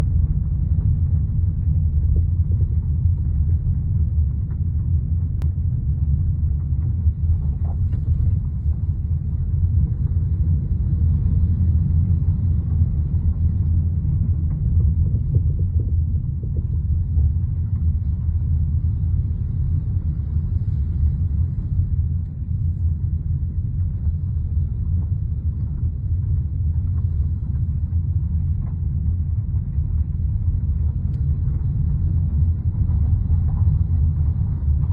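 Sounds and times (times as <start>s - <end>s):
car road rumble: 0.0s - 34.9s.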